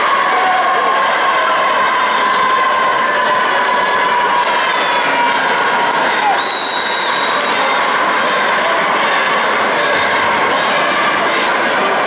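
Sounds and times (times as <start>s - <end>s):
crowd shouting and cheering: 0.0s - 12.0s.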